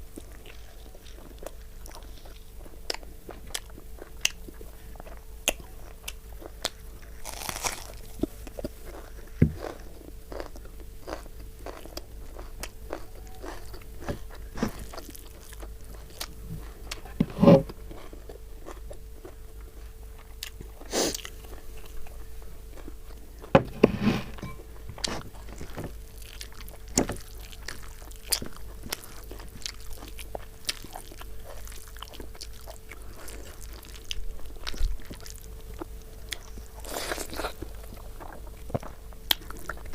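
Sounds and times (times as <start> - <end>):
person chewing with mouth smacks: 0.1 - 23.5, 24.9 - 39.9.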